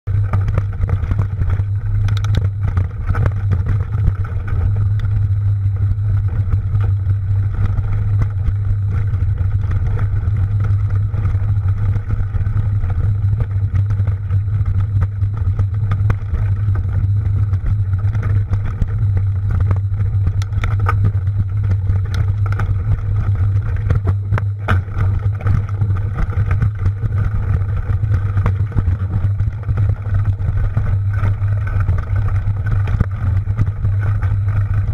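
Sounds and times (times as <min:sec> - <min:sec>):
bike rattling: 0:00.1 - 0:34.9
wind on microphone: 0:00.1 - 0:34.9.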